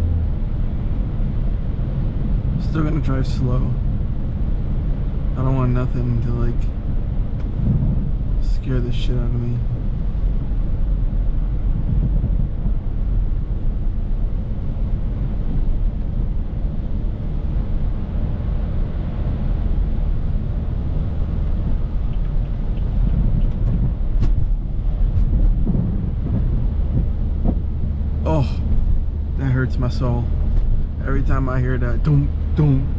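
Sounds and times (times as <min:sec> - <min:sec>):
engine and tyres rumbling on snow: 0:00.0 - 0:32.9.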